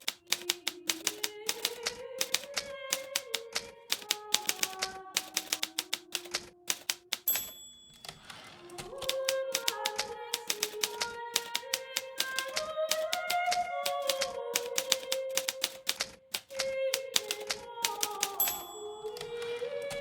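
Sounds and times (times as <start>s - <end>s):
typewriter key strikes: 0.0s - 8.2s, 8.8s - 19.5s
typewriter end-of-line bell: 0.0s - 19.6s
typewriter carriage return sweeping: 0.0s - 20.0s.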